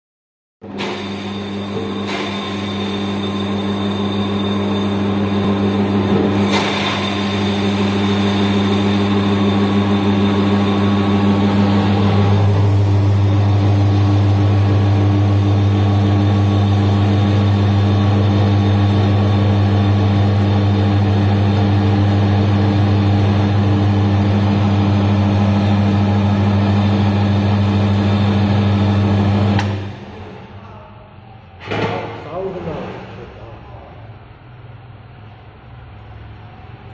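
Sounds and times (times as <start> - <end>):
grinding machine motor humming: 0.6 - 30.6.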